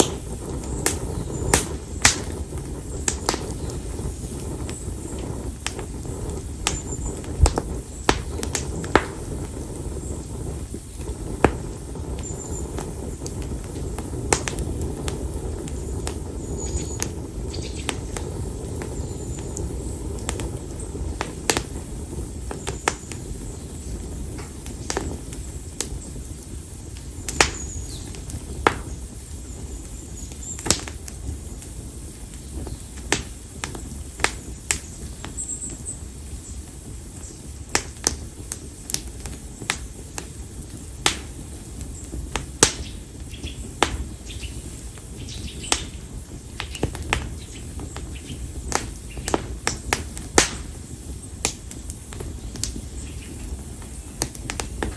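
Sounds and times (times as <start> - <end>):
firewood crackling and popping: 0.0 - 54.9
low rumble of flame: 0.0 - 54.9.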